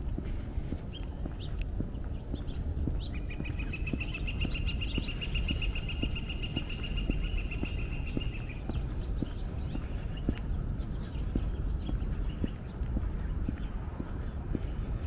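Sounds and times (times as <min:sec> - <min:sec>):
footsteps on pavement: 0:00.0 - 0:15.0
low outdoor rumble: 0:00.0 - 0:15.0.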